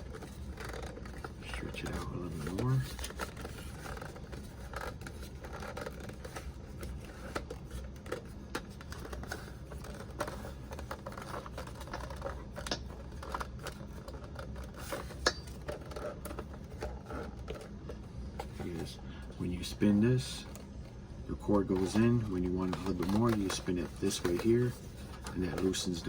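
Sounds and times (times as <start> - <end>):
plastic clicking and rattling: 0.0 - 18.9, 20.4 - 26.0.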